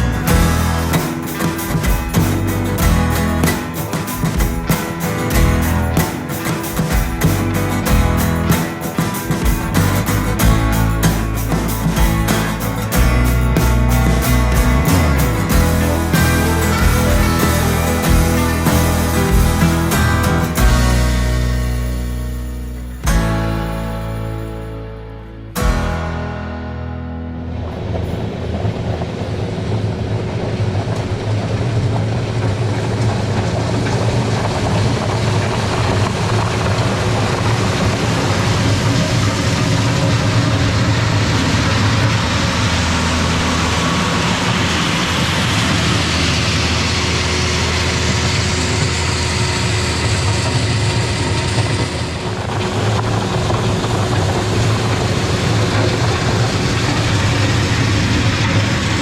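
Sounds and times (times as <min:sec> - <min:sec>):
broad gritty noise: 0:00.0 - 0:59.0
tractor diesel engine running: 0:00.0 - 0:59.0.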